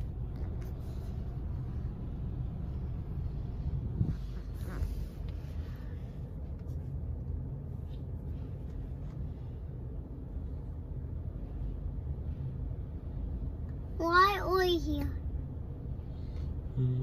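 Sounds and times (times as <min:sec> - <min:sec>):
car engine rumble in cabin: 0:00.0 - 0:17.0.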